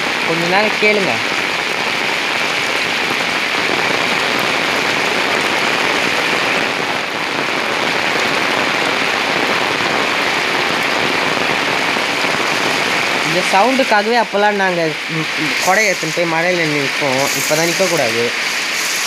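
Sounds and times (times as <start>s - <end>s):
heavy rain on an umbrella: 0.0s - 19.0s.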